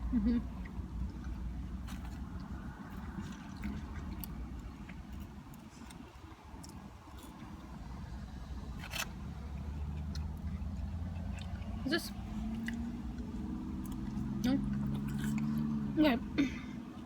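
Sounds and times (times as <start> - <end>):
chewing: 0.4 - 15.9.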